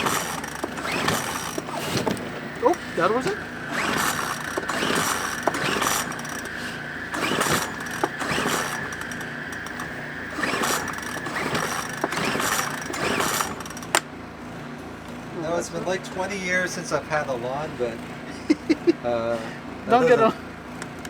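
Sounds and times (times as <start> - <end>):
recoil starter being pulled: 0.0 - 19.4, 20.7 - 21.0
generator engine cranking: 0.0 - 21.0.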